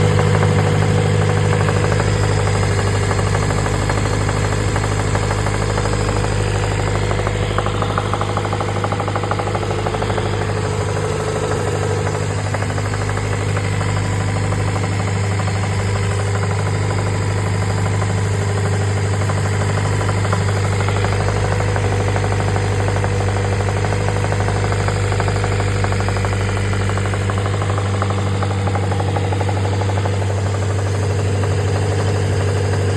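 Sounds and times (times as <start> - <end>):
car engine running: 0.0 - 32.9
engine knocking noise: 0.0 - 32.9.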